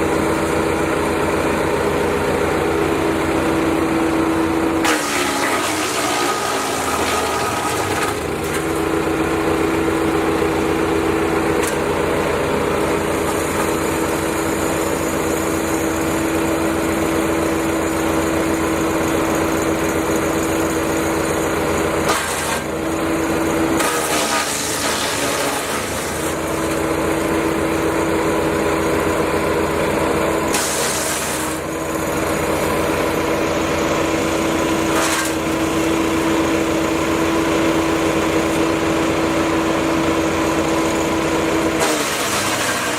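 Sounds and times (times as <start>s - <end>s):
wood chipper engine humming: 0.0s - 42.9s.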